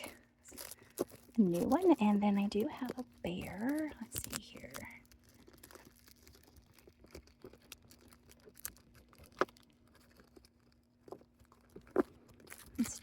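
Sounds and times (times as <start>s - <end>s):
faint steady hum: 0.0s - 13.0s
small items rustling and tapping: 0.0s - 13.0s.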